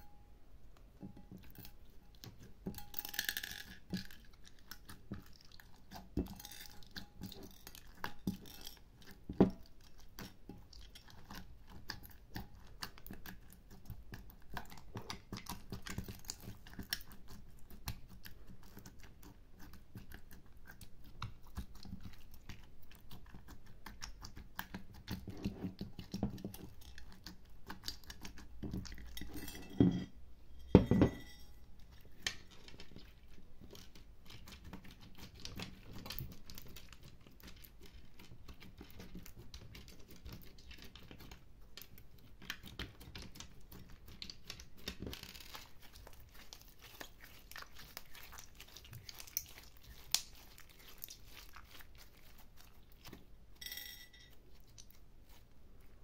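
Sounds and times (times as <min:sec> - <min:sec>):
slime squelching: 0:00.0 - 0:30.7, 0:31.5 - 0:56.0.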